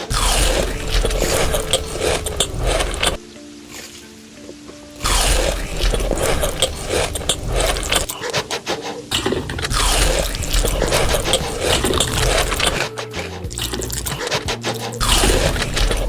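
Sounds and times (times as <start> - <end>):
crunching and chewing: 0.0 - 4.1, 5.0 - 16.0.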